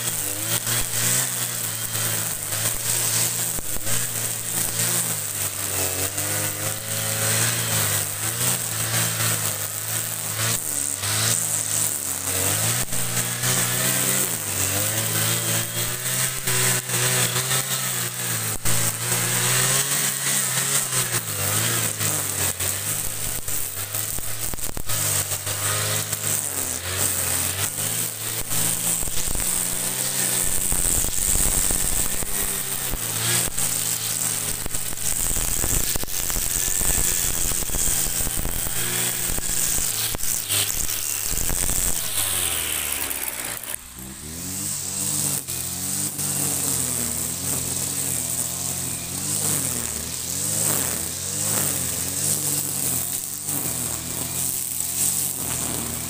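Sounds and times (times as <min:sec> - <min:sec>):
brush cutter engine under load: 0:00.0 - 0:56.0.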